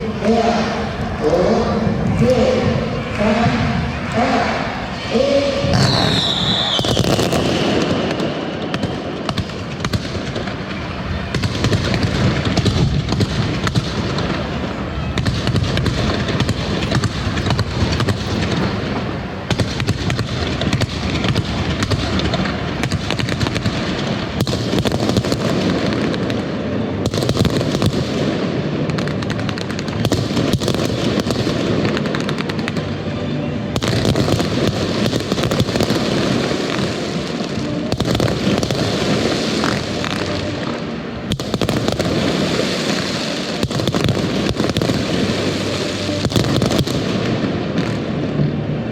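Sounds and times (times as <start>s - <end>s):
fireworks bursts and crackling: 0.0s - 48.9s.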